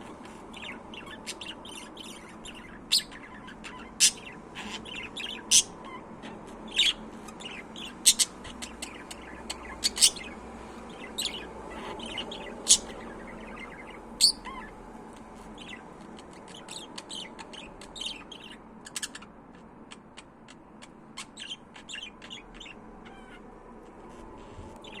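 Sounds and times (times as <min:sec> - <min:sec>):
budgerigars chirping: 0:00.2 - 0:14.8, 0:15.5 - 0:23.5.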